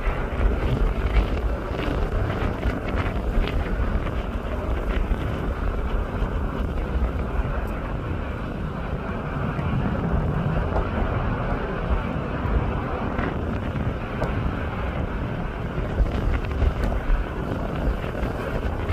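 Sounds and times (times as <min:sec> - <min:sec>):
jet engines roaring: 0:00.0 - 0:18.9
wind buffeting microphone: 0:00.0 - 0:18.9.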